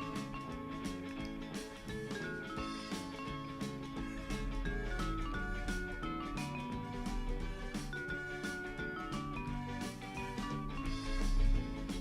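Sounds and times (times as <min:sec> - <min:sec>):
melodic background music: 0:00.0 - 0:12.0.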